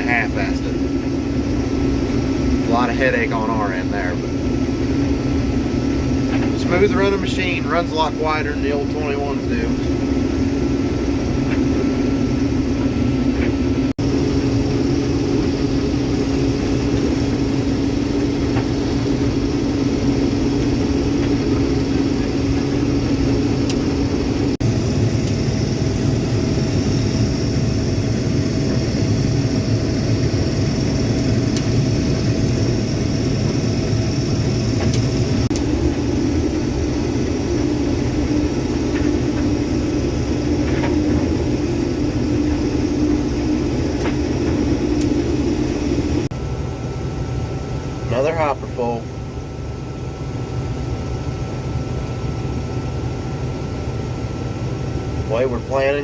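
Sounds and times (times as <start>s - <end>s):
combine harvester hum and rumble: 0.0s - 56.0s.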